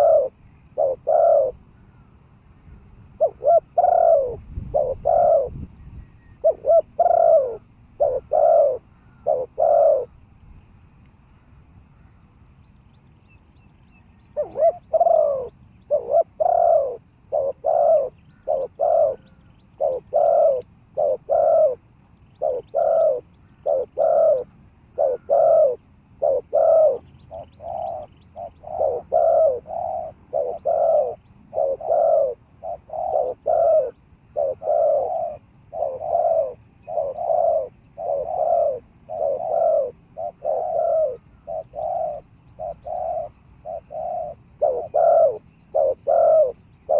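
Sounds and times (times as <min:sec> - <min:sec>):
dove cooing: 0:00.0 - 0:02.2, 0:03.0 - 0:10.2, 0:14.3 - 0:46.9.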